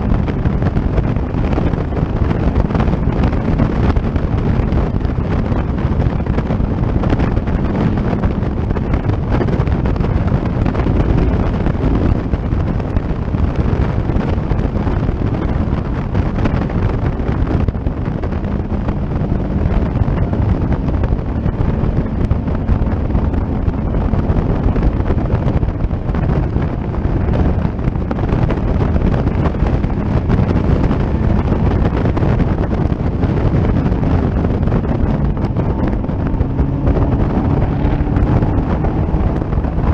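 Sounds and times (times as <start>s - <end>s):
race car engine droning: 0.0s - 39.9s
wind buffeting microphone: 0.0s - 39.9s.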